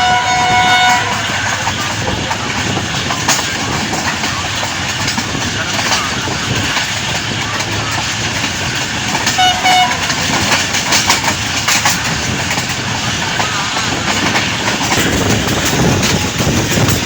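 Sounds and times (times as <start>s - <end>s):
train wheels clacking on rails: 0.0s - 17.0s.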